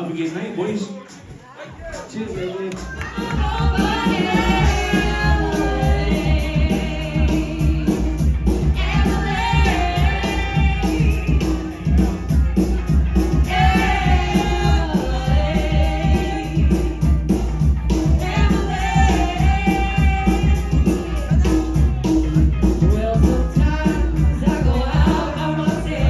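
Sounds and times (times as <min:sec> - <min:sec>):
live band with singing: 0:00.0 - 0:26.0.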